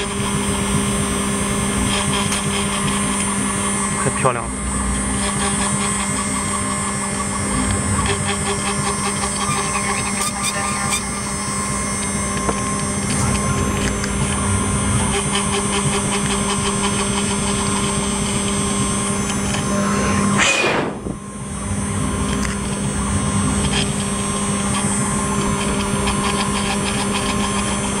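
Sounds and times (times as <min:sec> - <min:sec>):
engraving machine humming: 0:00.0 - 0:28.0.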